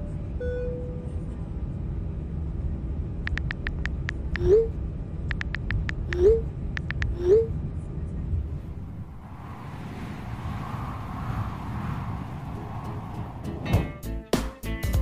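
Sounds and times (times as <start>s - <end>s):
airliner cabin hum: 0.2s - 14.2s.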